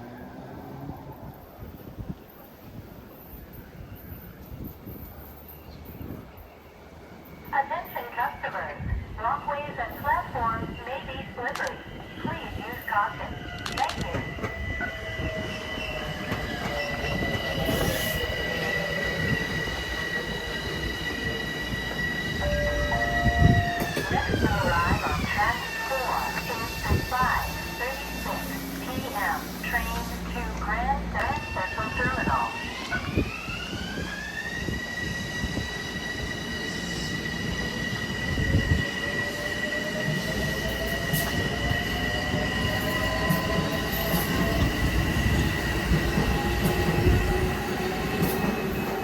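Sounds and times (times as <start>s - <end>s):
train passing on rails: 0.0s - 49.0s.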